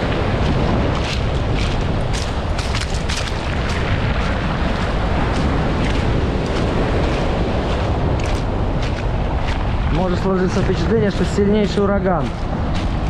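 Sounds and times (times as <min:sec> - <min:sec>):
sea surf breaking: 0:00.0 - 0:13.0
wind buffeting microphone: 0:00.0 - 0:13.0.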